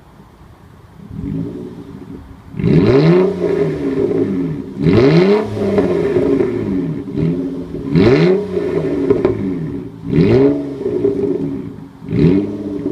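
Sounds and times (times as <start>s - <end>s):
car engine revving raspy: 1.0s - 12.9s.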